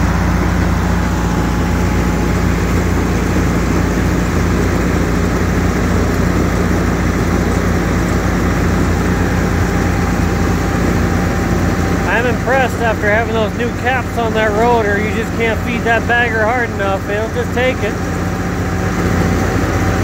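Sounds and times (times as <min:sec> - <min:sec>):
bagger rotor packing feed: 0:00.0 - 0:20.0
tractor running: 0:00.0 - 0:20.0.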